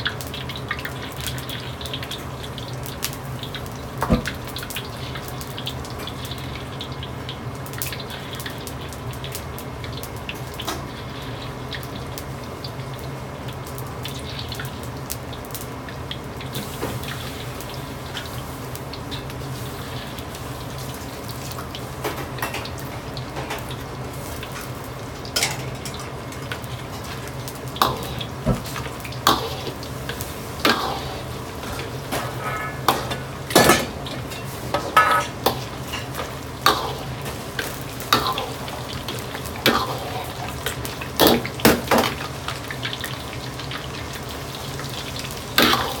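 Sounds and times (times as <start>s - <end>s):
gas burner roar: 0.0s - 46.0s
meat sizzling in hot oil: 0.0s - 46.0s.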